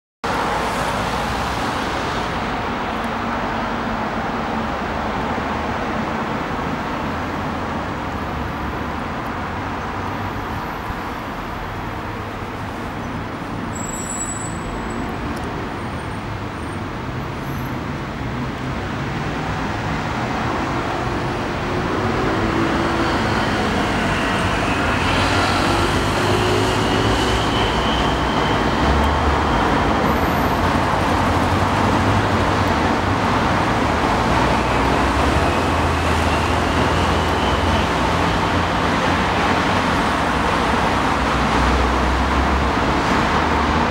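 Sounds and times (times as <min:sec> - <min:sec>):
cars passing close by: 0:00.3 - 0:43.9.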